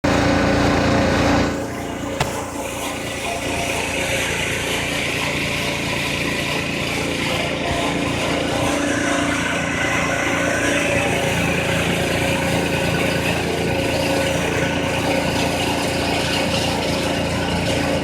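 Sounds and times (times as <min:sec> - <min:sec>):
motor drone: 0:00.1 - 0:18.0.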